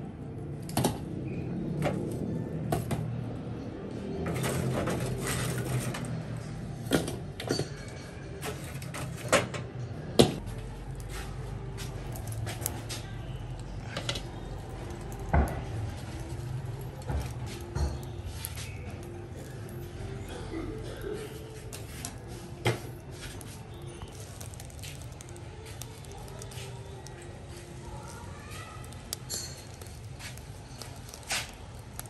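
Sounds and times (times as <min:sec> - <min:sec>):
charcoal clacking and knocking: 0:04.2 - 0:32.0.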